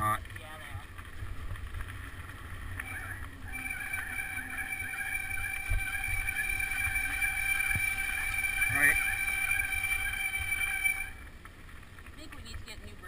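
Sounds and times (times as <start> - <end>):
low rumble of bike ride: 0.0 - 13.0.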